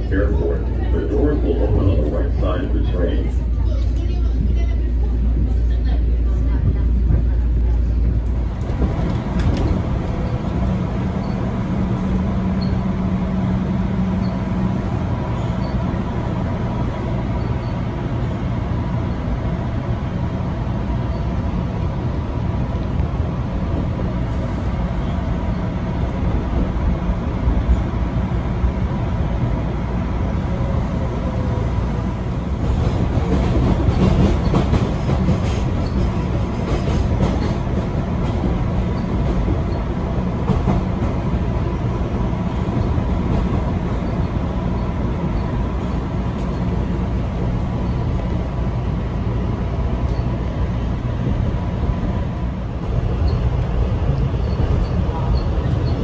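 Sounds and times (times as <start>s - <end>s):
subway train rumble: 0.0s - 56.0s.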